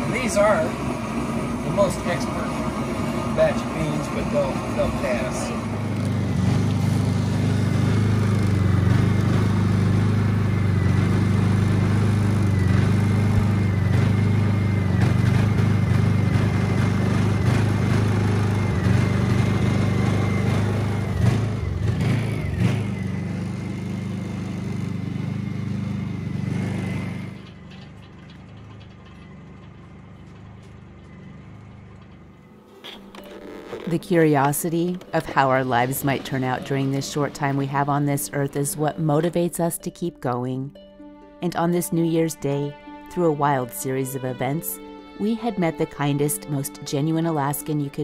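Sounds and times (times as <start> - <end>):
generator humming: 0.0 - 48.0.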